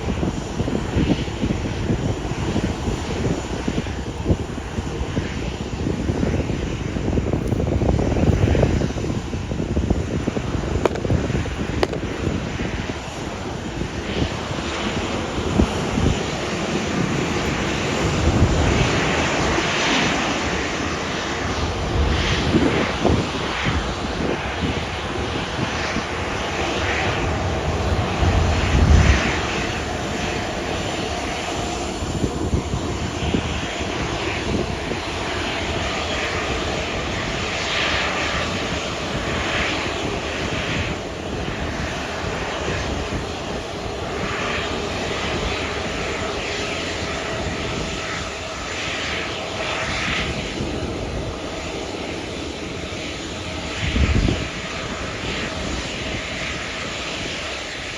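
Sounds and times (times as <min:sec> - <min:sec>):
jet engines running: 0:00.0 - 0:57.9.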